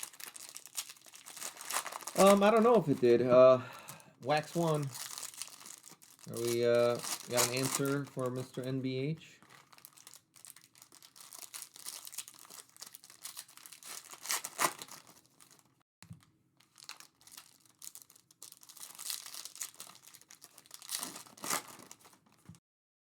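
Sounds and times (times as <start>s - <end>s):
card pack wrappers crinkling: 0.0s - 22.6s.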